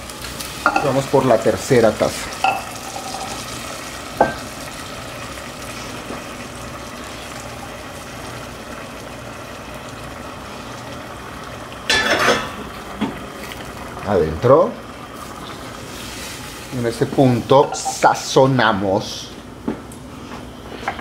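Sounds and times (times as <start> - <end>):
pot bubbling: 0.0 - 18.6.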